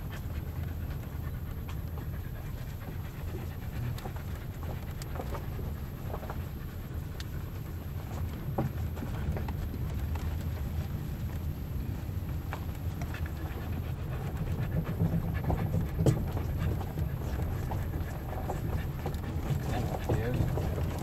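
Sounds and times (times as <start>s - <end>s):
car rolling on dirt road: 0.0s - 21.0s
dog panting: 0.0s - 21.0s
light ticks and rattles: 0.0s - 21.0s.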